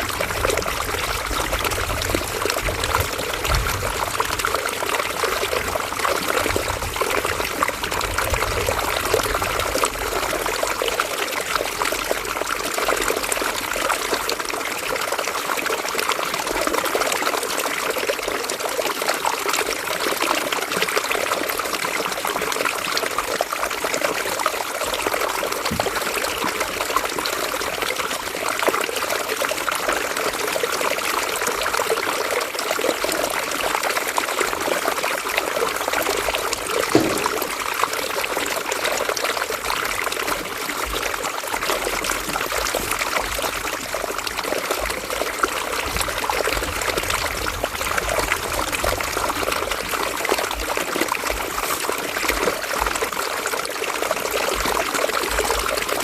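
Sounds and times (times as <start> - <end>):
river water over stones: 0.0 - 56.0.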